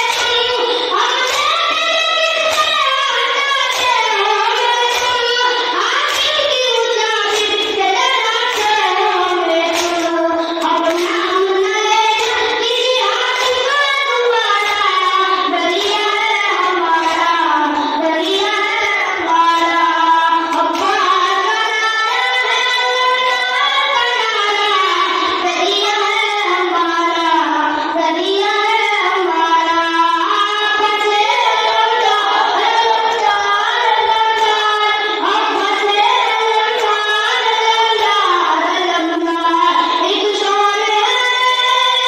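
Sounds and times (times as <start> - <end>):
boy singing a lament: 0.0 - 42.0.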